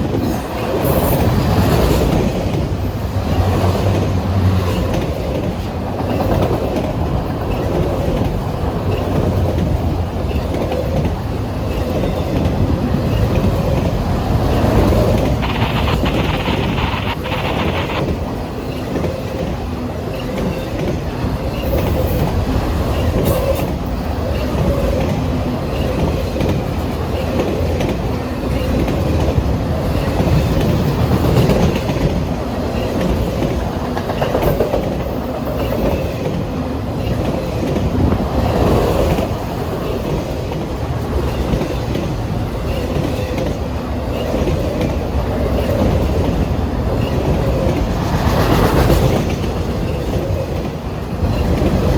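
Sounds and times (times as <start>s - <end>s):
clickety-clack over rail joints: 0.0s - 18.2s, 18.9s - 51.9s
train wheels rumbling on rail: 0.0s - 51.9s.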